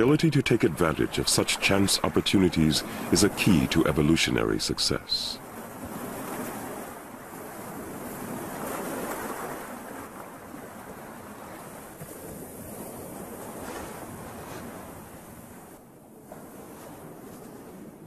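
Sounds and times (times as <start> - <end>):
waves splashing on rocks: 0.0 - 14.8.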